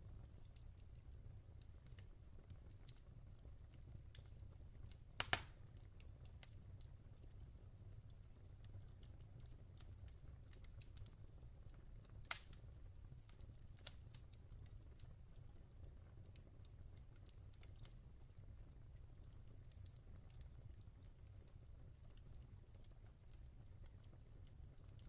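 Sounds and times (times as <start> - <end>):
log fire crackling: 0.0 - 25.0.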